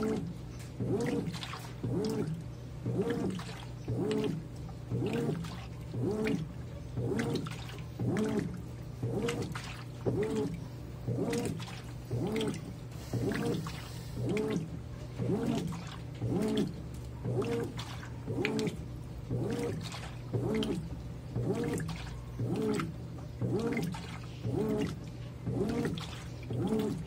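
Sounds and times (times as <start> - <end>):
washing machine motor hum: 0.0 - 27.0
water sloshing in washing machine: 0.0 - 27.0.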